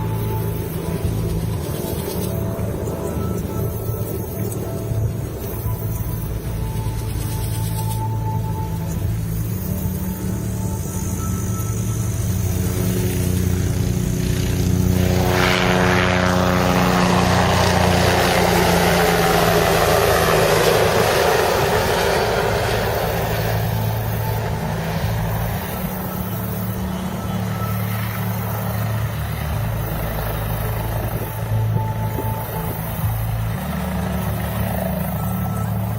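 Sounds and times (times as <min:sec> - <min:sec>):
helicopter flying past: 0:00.0 - 0:35.9
steady low hum: 0:00.0 - 0:35.9.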